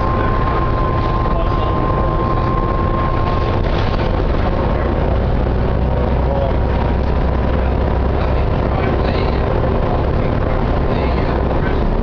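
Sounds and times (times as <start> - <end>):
bus engine rumble with whine: 0.0 - 12.0.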